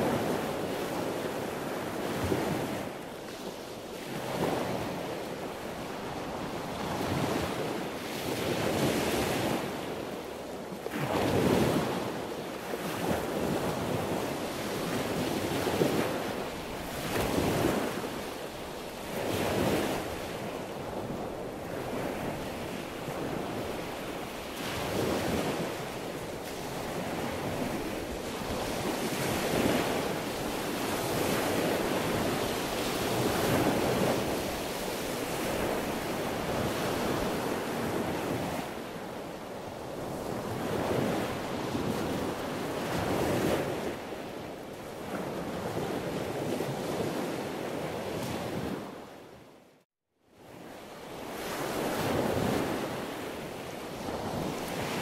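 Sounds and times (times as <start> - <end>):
sea waves breaking: 0.0 - 49.1, 51.1 - 55.0.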